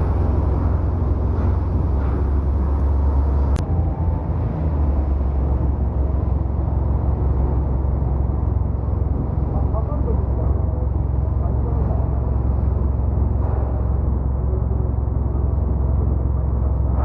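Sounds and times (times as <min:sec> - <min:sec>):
low machinery rumble: 0:00.0 - 0:17.0.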